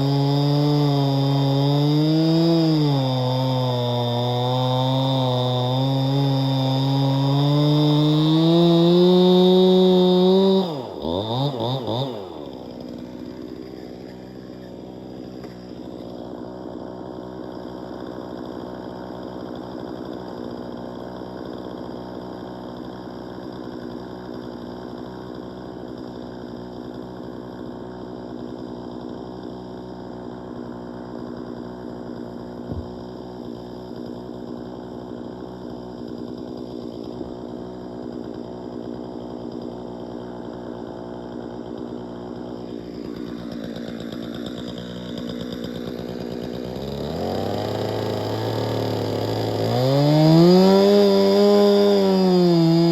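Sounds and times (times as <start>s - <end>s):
chainsaw engine revving down and idling: 0.0s - 52.9s.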